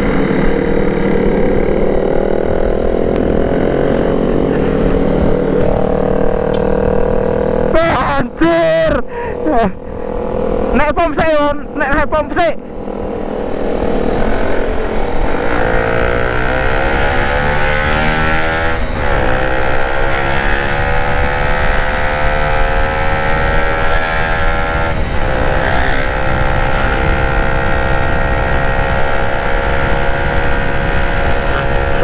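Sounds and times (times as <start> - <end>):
motorcycle engine accelerating: 0.0 - 32.0
wind rush: 0.0 - 32.0.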